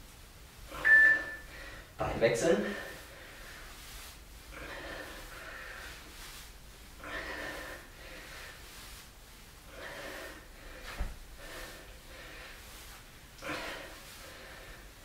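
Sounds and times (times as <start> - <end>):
man breathing hard: 0.7 - 2.0, 2.7 - 9.0, 9.6 - 15.0.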